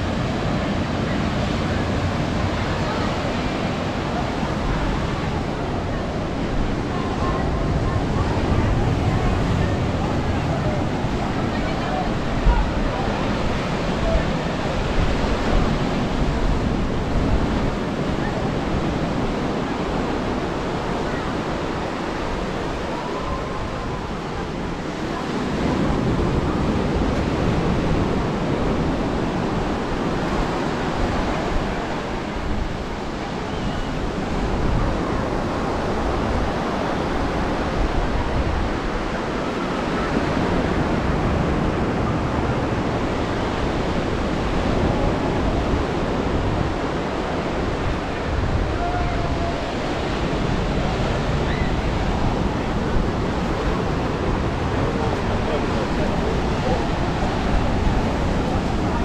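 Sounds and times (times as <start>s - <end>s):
ocean surf breaking on beach: 0.0s - 59.0s
wind on microphone: 0.0s - 59.0s.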